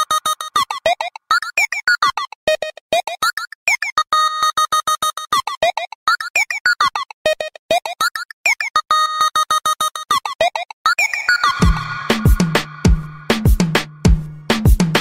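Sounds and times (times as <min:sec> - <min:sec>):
electronic music with clipped notes: 0:00.0 - 0:15.0.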